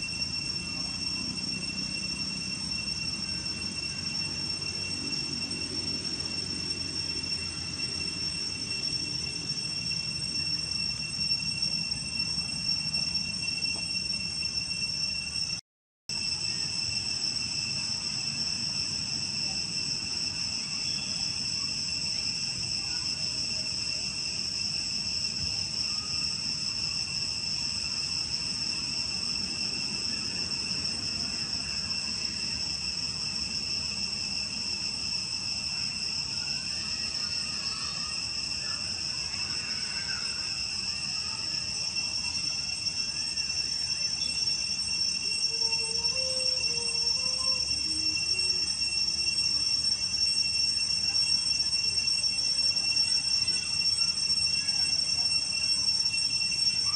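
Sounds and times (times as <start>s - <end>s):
insects buzzing: 0.0s - 15.6s, 16.2s - 56.9s.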